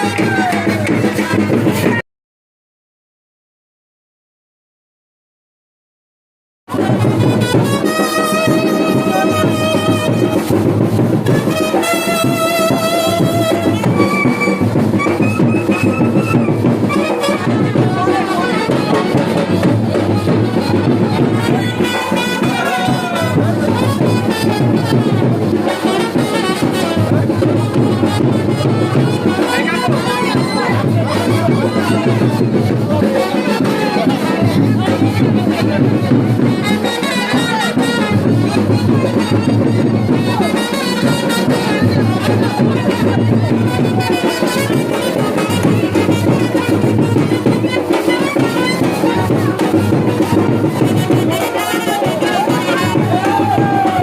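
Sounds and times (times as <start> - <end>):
music with steady beat: 6.7 - 54.0.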